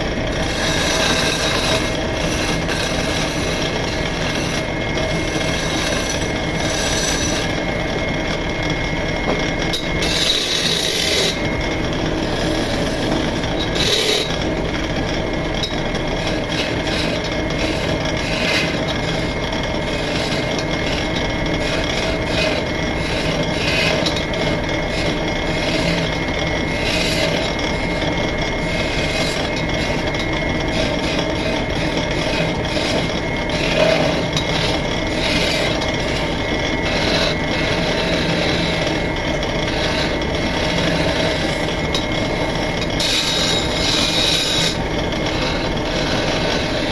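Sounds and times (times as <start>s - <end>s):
chisel cutting spinning wood: 0.0s - 46.9s
wood lathe running: 0.0s - 46.9s.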